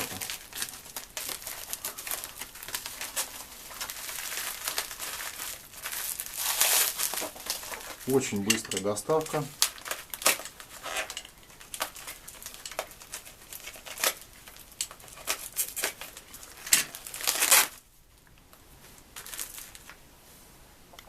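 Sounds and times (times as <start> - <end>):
wrapping crinkling and rustling: 0.0 - 20.4.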